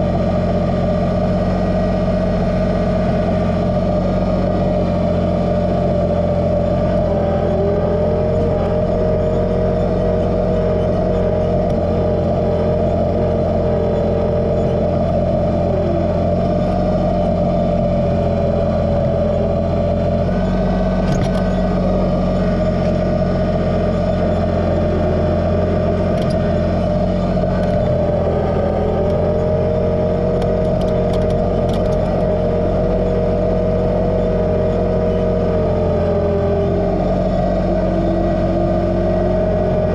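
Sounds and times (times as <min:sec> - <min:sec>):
low whine: 0:00.0 - 0:39.9
tractor diesel engine running: 0:00.0 - 0:39.9.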